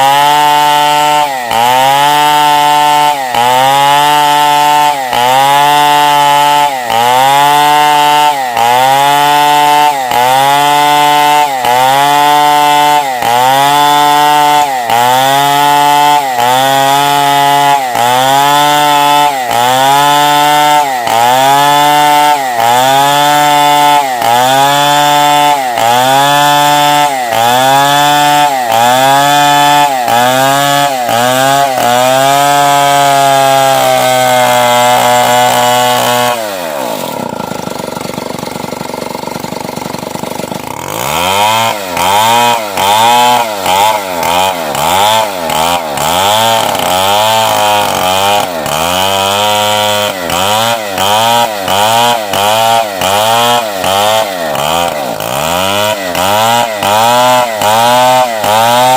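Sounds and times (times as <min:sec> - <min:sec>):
chainsaw cutting log: 0:00.0 - 0:58.9.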